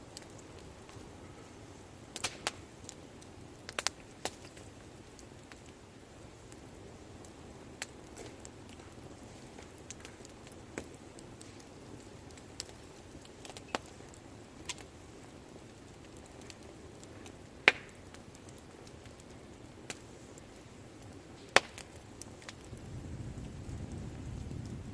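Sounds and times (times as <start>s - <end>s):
campfire crackling and popping: 0.0s - 24.9s
low rush of flame: 0.0s - 24.9s.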